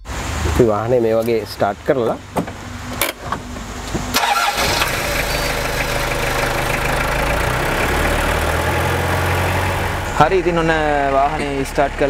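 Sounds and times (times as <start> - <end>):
engine idling: 0.0 - 12.0
vehicle engine starting: 0.0 - 12.0.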